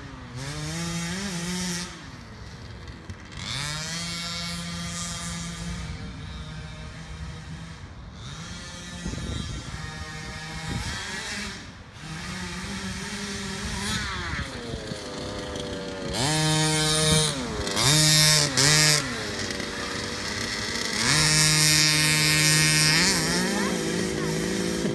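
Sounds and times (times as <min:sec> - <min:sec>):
small two-stroke engine revving: 0:00.0 - 0:24.9.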